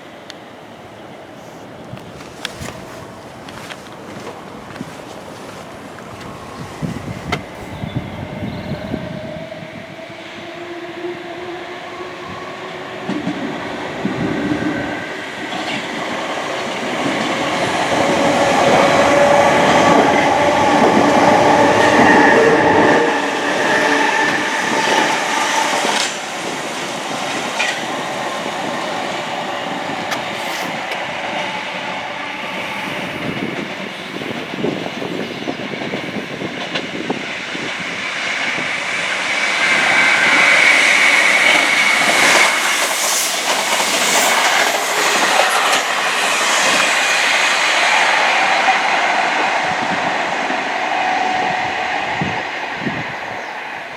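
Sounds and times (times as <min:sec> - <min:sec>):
train wheels rattling on track: 0:00.0 - 0:53.9.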